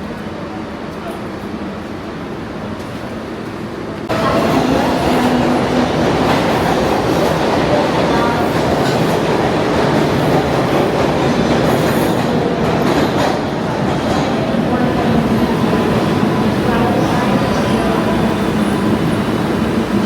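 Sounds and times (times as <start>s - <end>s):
subway train rumbling on track: 0.0s - 20.0s.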